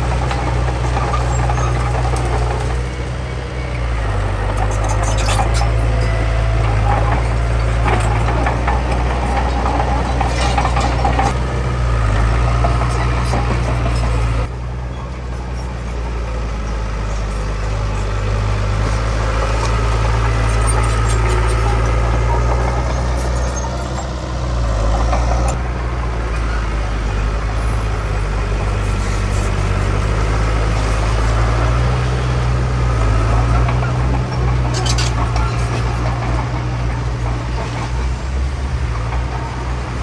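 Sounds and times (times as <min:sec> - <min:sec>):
heavy diesel engines droning: 0:00.0 - 0:40.0.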